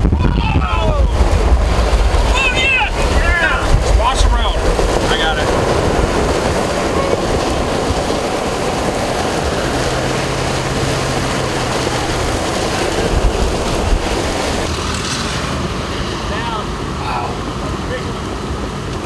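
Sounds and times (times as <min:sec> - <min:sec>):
storm wind and rain: 0:00.0 - 0:19.0
vehicle road noise: 0:00.0 - 0:19.0.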